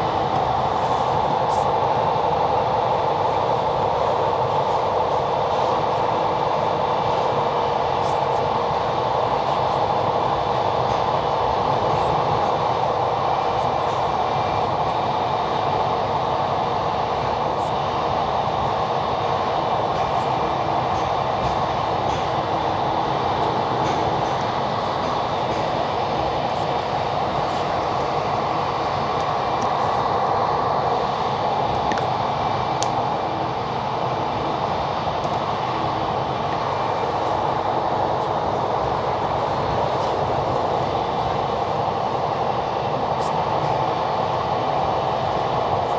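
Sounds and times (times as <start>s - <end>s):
train wheels on rails: 0.0s - 45.9s.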